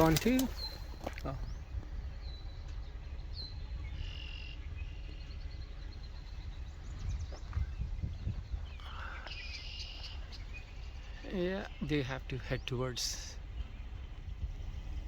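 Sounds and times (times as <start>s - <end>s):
high chirps of birds or insects: 0.0s - 15.0s
wind rumble on microphone: 0.0s - 15.0s.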